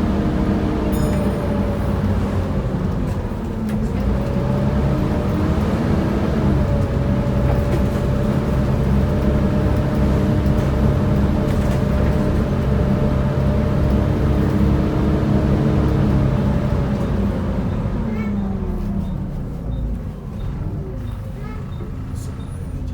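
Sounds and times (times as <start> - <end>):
engine cooling fan roar and whine: 0.0 - 21.0
diesel engine hum: 0.0 - 22.9.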